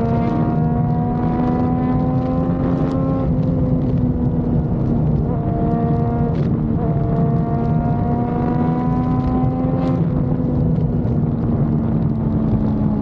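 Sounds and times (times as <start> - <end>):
motorcycle engine running: 0.0 - 13.0
road rumble: 0.0 - 13.0
wind: 0.0 - 13.0.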